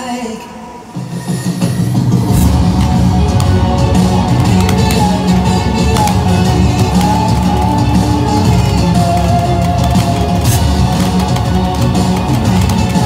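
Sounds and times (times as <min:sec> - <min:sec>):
music over loudspeaker: 0:00.0 - 0:13.0.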